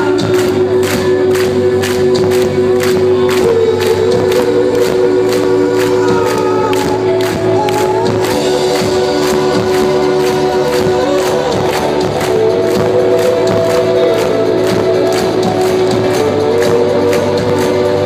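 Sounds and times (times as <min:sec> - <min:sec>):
crowd noise: 0:00.0 - 0:18.0
drum beat: 0:00.0 - 0:18.0
person singing: 0:00.0 - 0:18.0
rock band playing live: 0:00.0 - 0:18.0.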